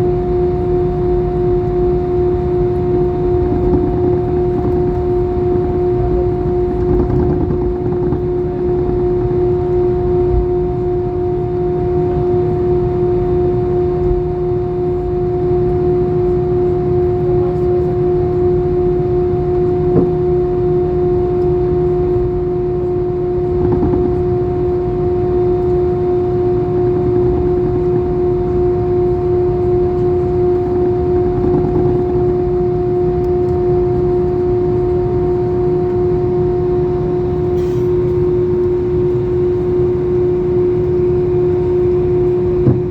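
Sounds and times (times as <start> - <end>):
jet engine cabin drone: 0.0 - 42.9.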